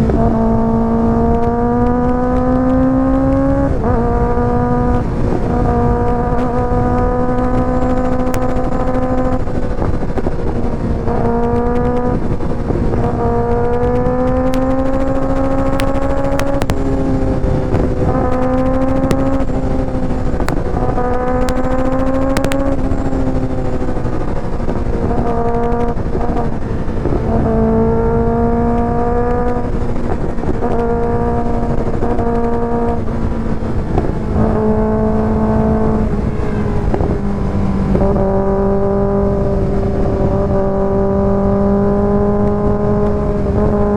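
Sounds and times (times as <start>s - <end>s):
motorcycle engine riding: 0.0s - 43.9s.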